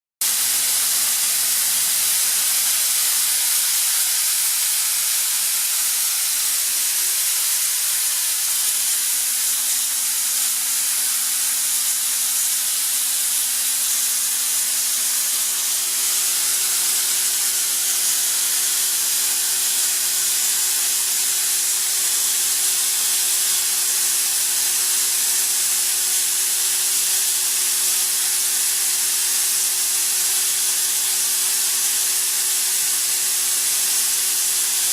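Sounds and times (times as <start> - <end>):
air compressor hiss: 0.2 - 34.9.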